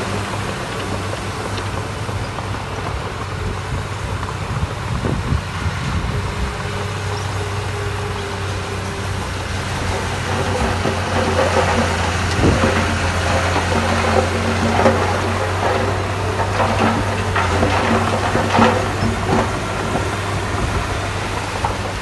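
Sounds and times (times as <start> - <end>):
diesel machinery engine hum: 0.0 - 22.0.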